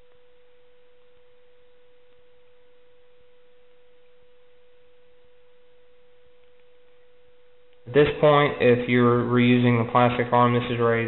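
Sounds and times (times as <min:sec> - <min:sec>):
faint background hiss: 0:00.0 - 0:11.0
steady pure tone: 0:00.0 - 0:11.0.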